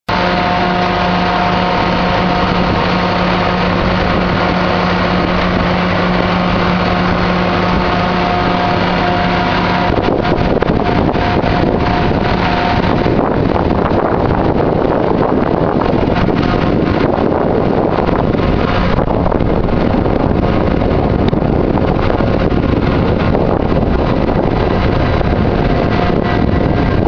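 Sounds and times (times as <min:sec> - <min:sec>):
silage bagger running: 0:00.1 - 0:27.0
wind buffeting microphone: 0:00.1 - 0:27.0.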